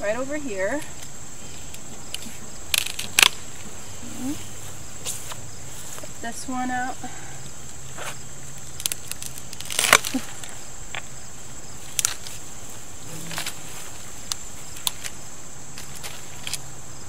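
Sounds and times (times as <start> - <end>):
crickets trilling: 0.0 - 17.0
twigs cracking and rustling: 0.7 - 6.4, 7.4 - 16.8.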